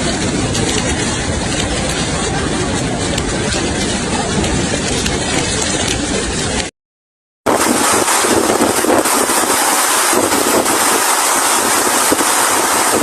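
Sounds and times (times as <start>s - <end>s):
heavy rain pouring: 0.0s - 6.7s, 7.5s - 13.0s.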